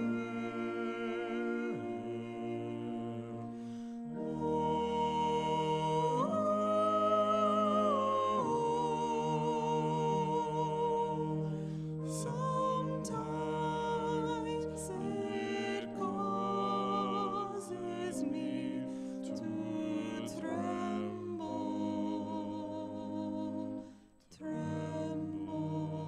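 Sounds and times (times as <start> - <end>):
woman and man singing in harmony: 0.0 - 26.0.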